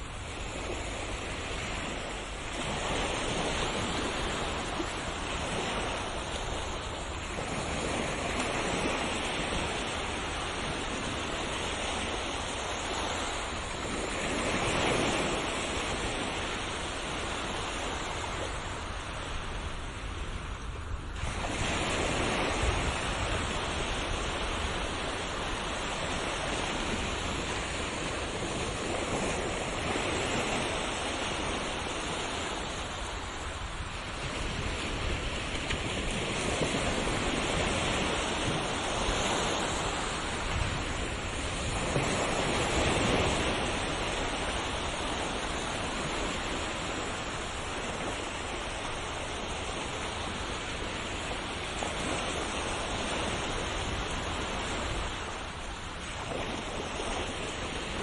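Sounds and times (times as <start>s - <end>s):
ocean waves washing on shore: 0.0s - 58.0s.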